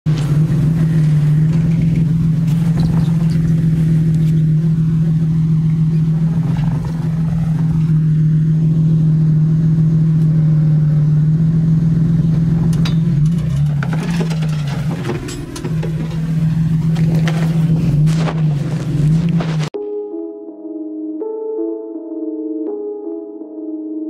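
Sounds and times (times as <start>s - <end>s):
car engine running steadily: 0.0s - 19.8s.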